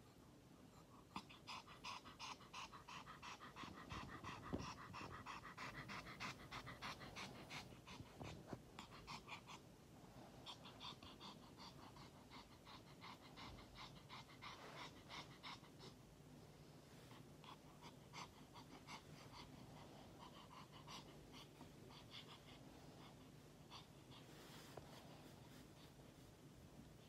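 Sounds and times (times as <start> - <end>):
small dog panting: 0.6 - 27.0.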